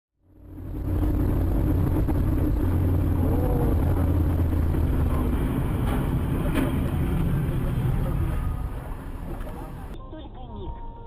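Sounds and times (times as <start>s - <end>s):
car engine hum: 0.2s - 10.0s
tyre road noise: 0.2s - 11.0s.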